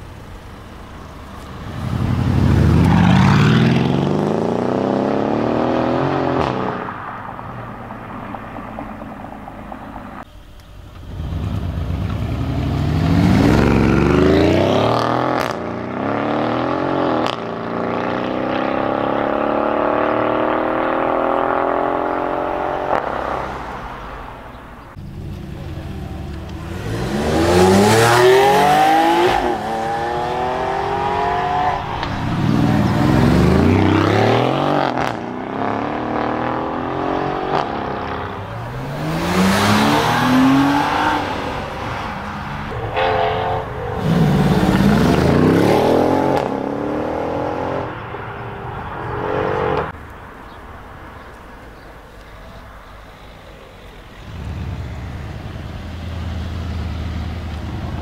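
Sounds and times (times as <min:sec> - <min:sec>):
car engine accelerating: 0:00.0 - 0:10.2, 0:11.0 - 0:50.0, 0:54.2 - 0:58.0.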